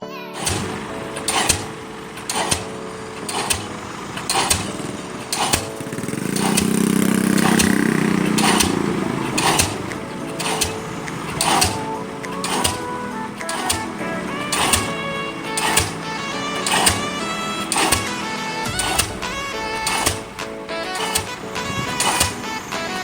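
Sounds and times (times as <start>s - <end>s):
pile-driving hammer bangs: 0.4s - 23.0s
rig engine drone: 0.4s - 23.0s.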